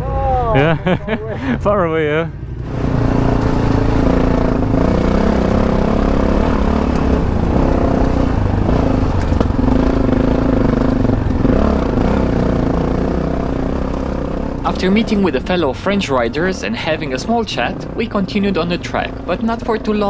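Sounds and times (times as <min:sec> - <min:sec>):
motorcycle engine revving: 0:01.9 - 0:20.0.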